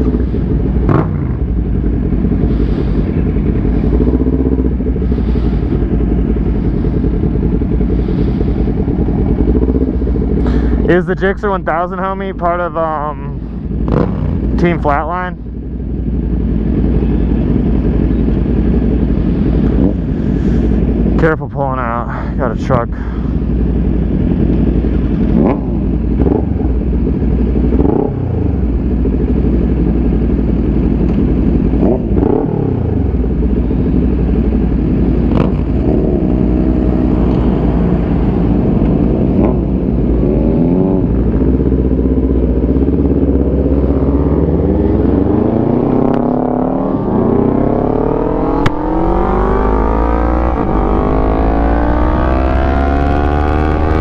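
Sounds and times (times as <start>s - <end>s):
motorcycle engine running: 0.0s - 54.0s
other motorcycles revving: 0.0s - 54.0s.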